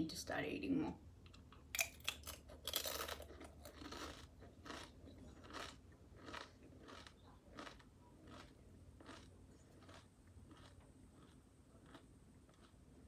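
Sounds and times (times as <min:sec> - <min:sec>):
chewing crunchy chip: 0:01.3 - 0:13.0.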